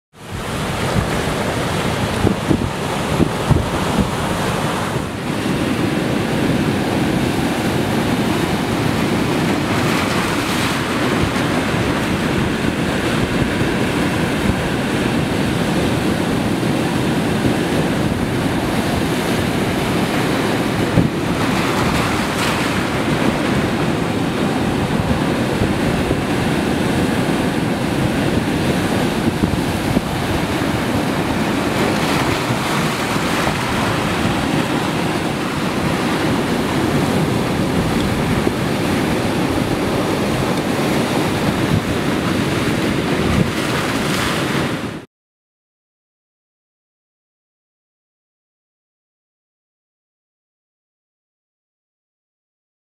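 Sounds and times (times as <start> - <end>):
surf breaking on rocks: 0.2 - 45.0
wind on microphone: 0.2 - 45.0.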